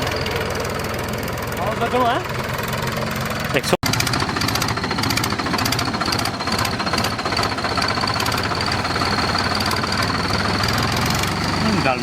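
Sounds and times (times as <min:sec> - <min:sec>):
high exhaust whistle: 0:00.0 - 0:12.0
tractor engine running: 0:00.0 - 0:12.0.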